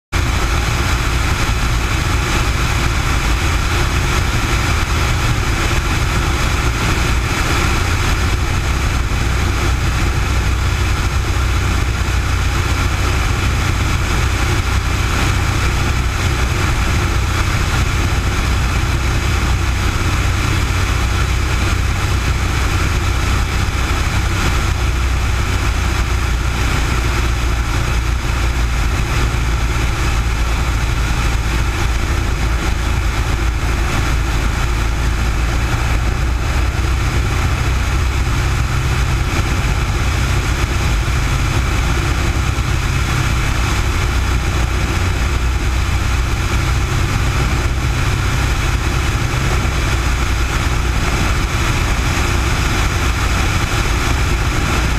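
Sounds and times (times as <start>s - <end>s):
propeller plane engine droning: 0.0s - 54.9s.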